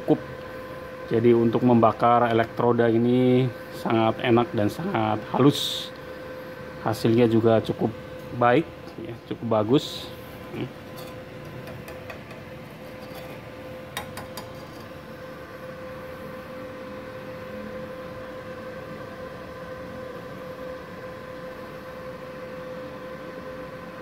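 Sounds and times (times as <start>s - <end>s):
cooling fan humming and whirring: 0.0s - 24.0s.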